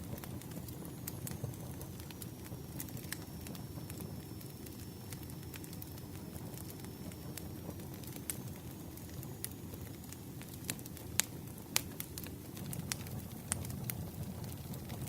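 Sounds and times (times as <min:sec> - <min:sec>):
burning wood rumbling: 0:00.0 - 0:15.0
fire pops and snaps: 0:00.0 - 0:15.0.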